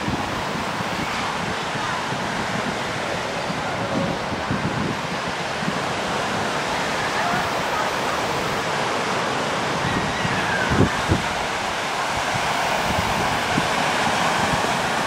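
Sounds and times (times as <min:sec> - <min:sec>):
surf breaking on beach: 0:00.0 - 0:15.0
wind blowing across microphone: 0:00.0 - 0:15.0.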